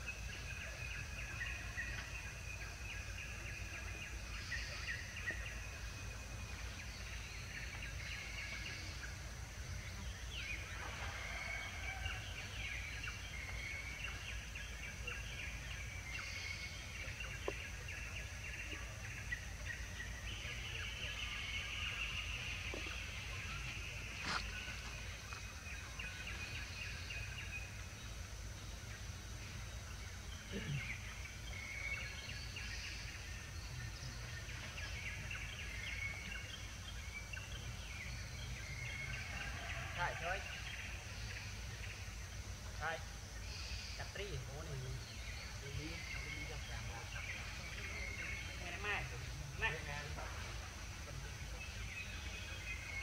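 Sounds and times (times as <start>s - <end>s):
birds calling: 0.0s - 53.0s.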